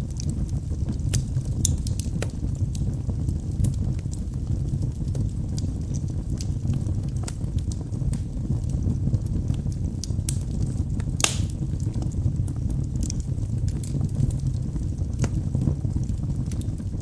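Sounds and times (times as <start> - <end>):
logs crackling and popping: 0.0 - 17.0
wood fire rumbling: 0.0 - 17.0.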